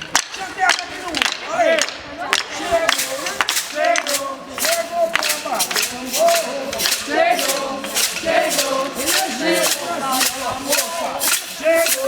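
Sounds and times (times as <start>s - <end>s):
group of voices singing: 1.4s - 12.0s
percussion band drumming: 1.8s - 12.0s.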